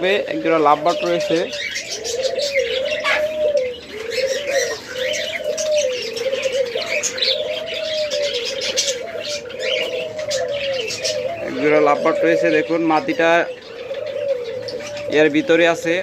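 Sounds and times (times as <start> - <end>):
doves cooing: 0.0 - 16.0
small birds chirping: 0.0 - 16.0.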